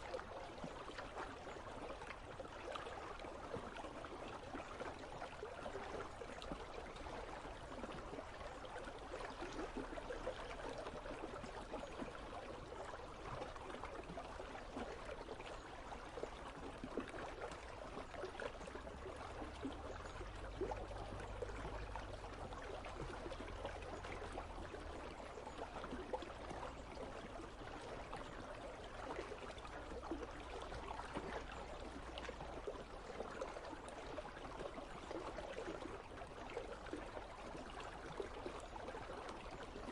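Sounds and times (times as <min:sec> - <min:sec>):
faint low rumble: 0:00.0 - 0:39.9
river water babbling: 0:00.0 - 0:39.9.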